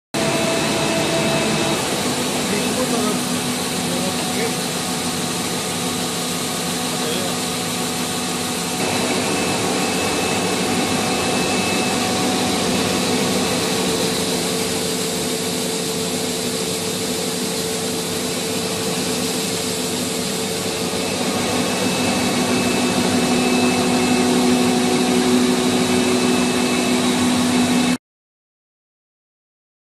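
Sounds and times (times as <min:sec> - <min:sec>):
paper slitting machine humming: 0:00.2 - 0:28.0.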